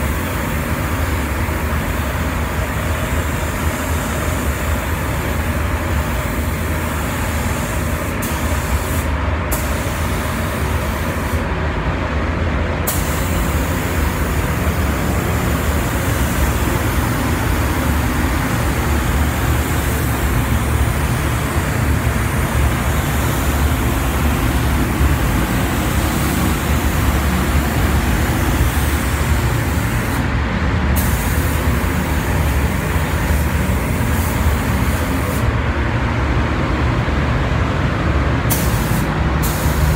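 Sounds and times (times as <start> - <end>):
spray gun hissing: 0.0 - 11.5, 12.9 - 30.3, 31.0 - 35.5, 38.5 - 39.9.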